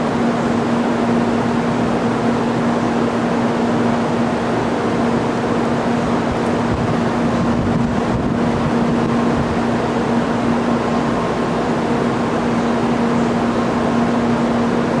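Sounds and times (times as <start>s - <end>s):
low steady hum and rumble: 0.0s - 15.0s.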